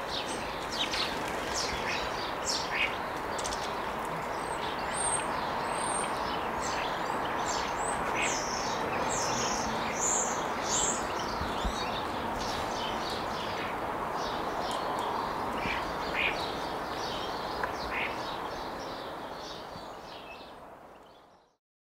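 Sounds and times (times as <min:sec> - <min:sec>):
small birds chirping: 0:00.0 - 0:21.6.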